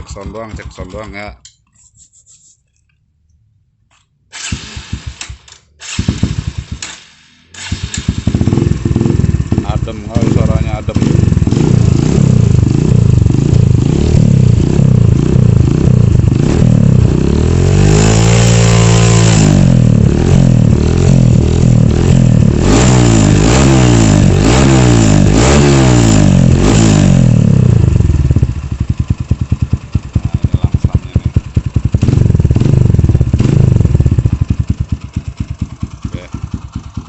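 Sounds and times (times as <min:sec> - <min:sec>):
motorcycle engine revving: 0:00.0 - 0:01.4, 0:04.4 - 0:37.0.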